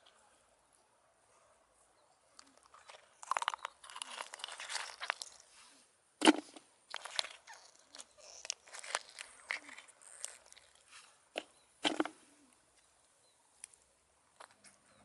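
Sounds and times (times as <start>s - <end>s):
crackling rustling handling noise: 2.3s - 14.8s.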